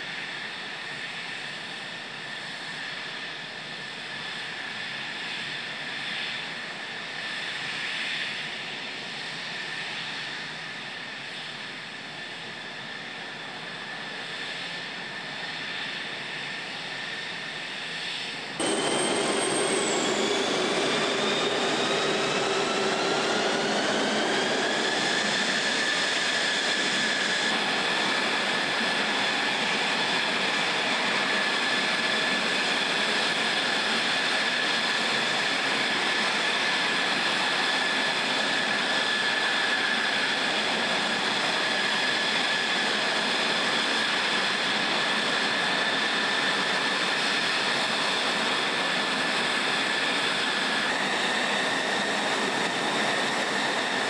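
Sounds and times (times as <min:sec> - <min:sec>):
jet engine whining: 0:00.1 - 0:54.0.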